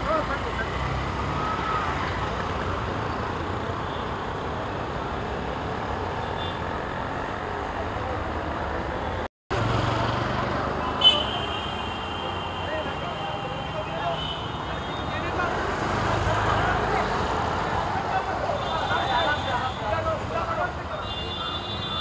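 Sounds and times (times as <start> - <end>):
traffic: 0.0 - 22.0.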